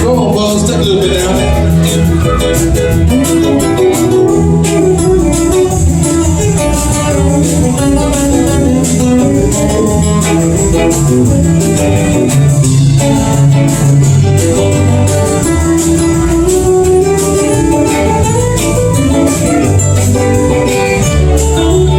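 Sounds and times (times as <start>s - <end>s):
electric guitar: 0.0s - 21.9s
live rock band playing: 0.0s - 21.9s.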